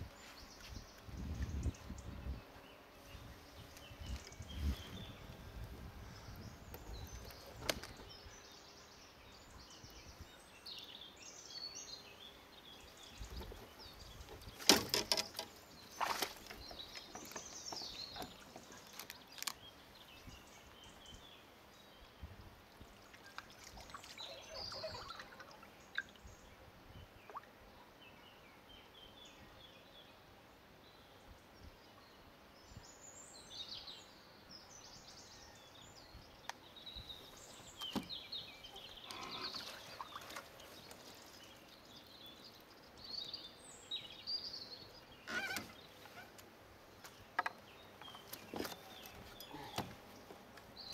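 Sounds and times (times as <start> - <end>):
small birds chirping: 0.0 - 30.2, 30.8 - 50.9.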